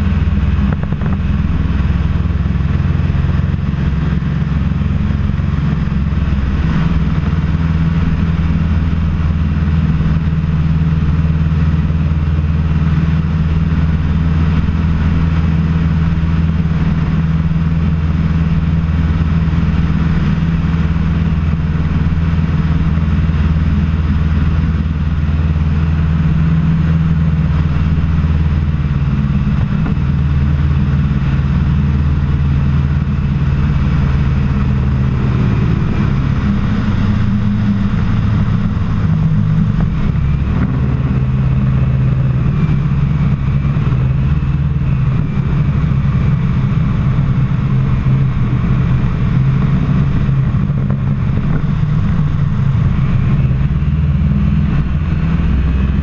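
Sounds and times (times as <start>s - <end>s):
ultralight engine and propeller droning: 0.0s - 56.0s.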